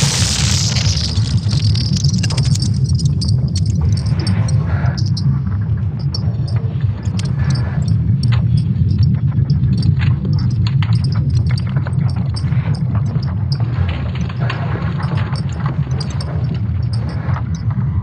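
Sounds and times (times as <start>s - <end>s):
crackles and clicks: 0.0s - 18.0s
steady deep rumble: 0.0s - 18.0s.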